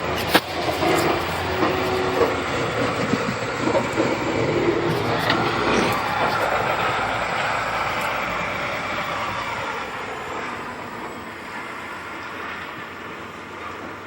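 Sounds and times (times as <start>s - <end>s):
snowplow truck driving past: 0.0s - 14.0s.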